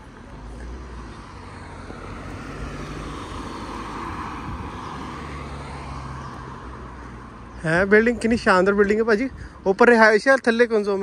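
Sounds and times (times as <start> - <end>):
vehicle passing: 0.0 - 9.7.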